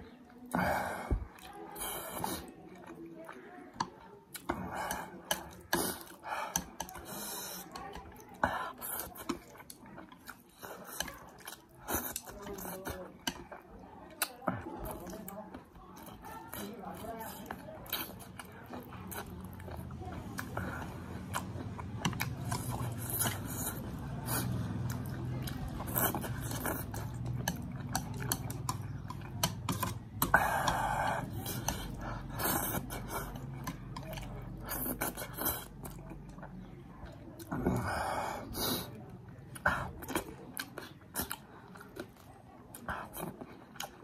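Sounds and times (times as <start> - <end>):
person chewing and mouth smacking: 0.2 - 44.0.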